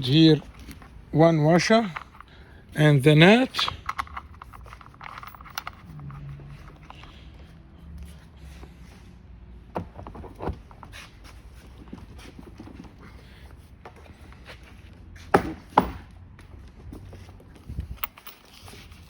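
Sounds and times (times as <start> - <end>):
parts clicking and knocking: 0.0 - 8.6, 9.6 - 13.0, 13.8 - 19.0.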